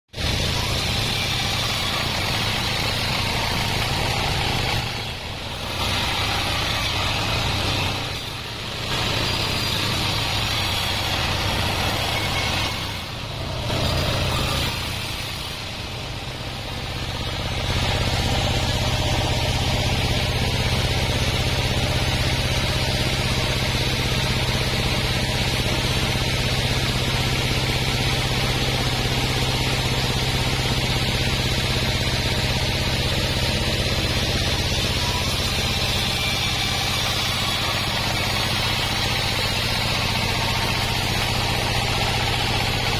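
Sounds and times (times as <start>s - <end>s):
sawmill machine drone: 0.2s - 42.9s.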